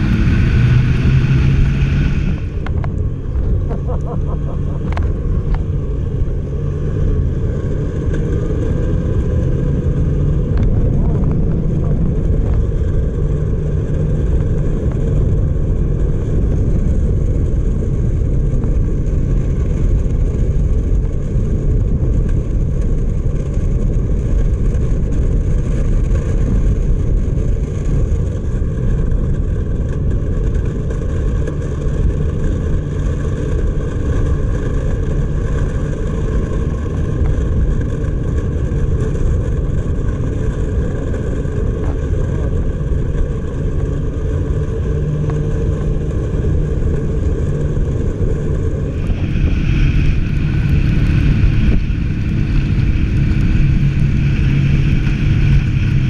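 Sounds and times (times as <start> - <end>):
rumble of wind and track: 0.0 - 56.0
snowmobile engine running: 0.0 - 56.0.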